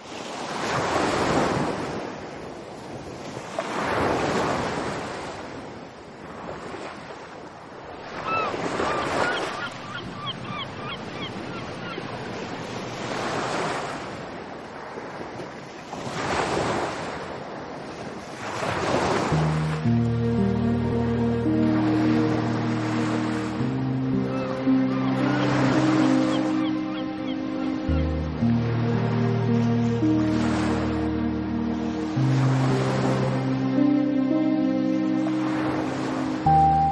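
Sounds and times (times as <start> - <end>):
waves washing onto shore: 0.0 - 10.2, 11.2 - 36.9.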